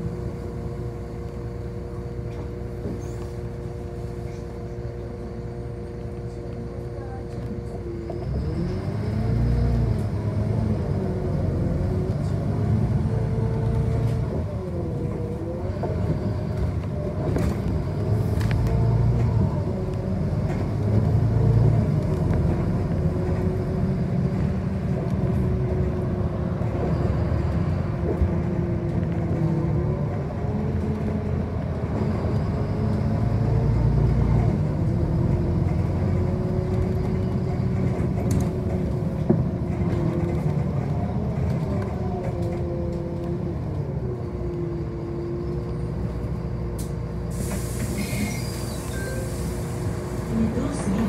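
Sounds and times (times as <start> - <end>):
bus motor running: 0.0 - 51.0.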